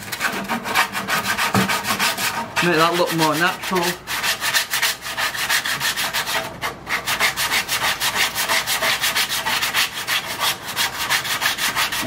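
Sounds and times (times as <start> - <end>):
sandpaper rubbing wood: 0.0 - 12.0.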